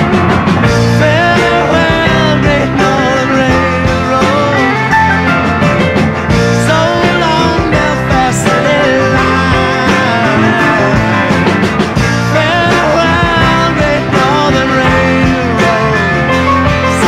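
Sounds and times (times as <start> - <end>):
lead guitar line bending: 0.0 - 17.0
rock band playing: 0.0 - 17.0.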